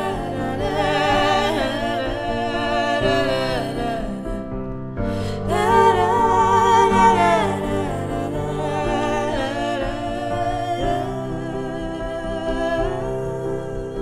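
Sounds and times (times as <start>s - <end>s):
women singing in harmony: 0.0s - 14.0s.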